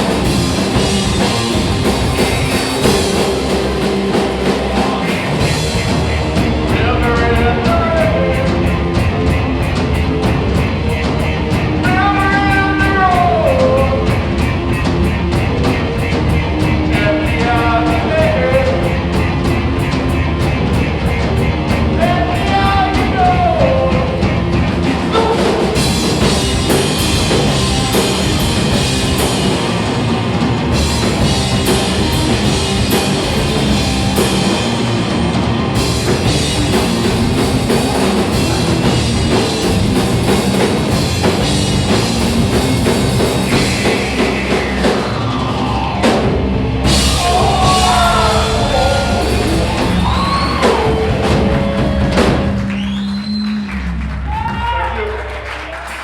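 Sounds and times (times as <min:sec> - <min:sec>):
distorted electric guitar: 0:00.0 - 0:52.7
bass guitar: 0:00.0 - 0:56.0
drum kit: 0:00.0 - 0:56.0.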